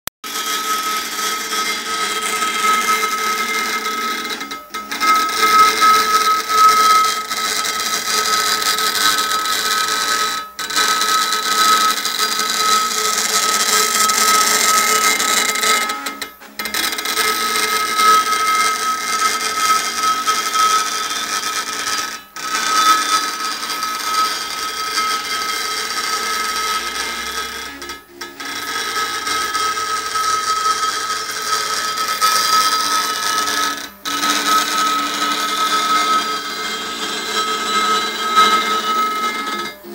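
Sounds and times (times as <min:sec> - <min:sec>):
engraving machine buzzing: 0:00.5 - 0:39.9.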